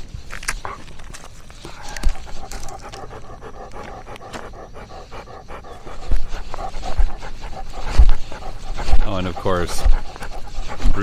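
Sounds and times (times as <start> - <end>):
dog panting: 0.4 - 11.0.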